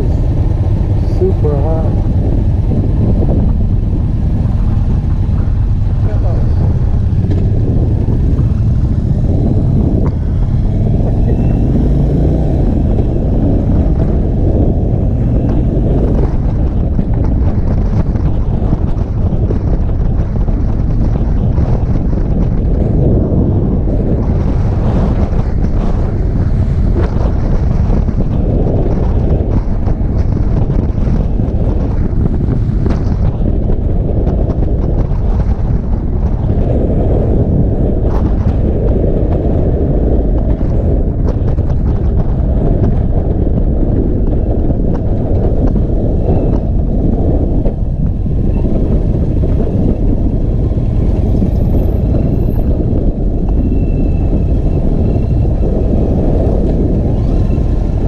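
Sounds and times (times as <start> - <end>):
motorcycle engine: 0.0 - 58.0
road noise: 0.0 - 58.0
wind buffeting microphone: 0.0 - 58.0.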